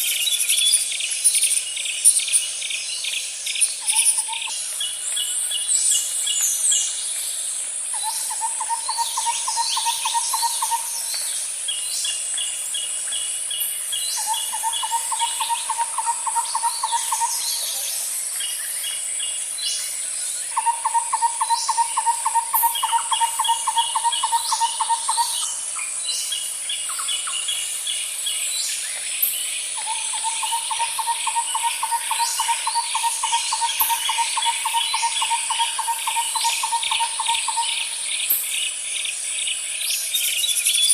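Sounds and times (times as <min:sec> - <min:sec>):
cricket-like chirps: 0:00.0 - 0:40.9
insects buzzing: 0:00.0 - 0:40.9.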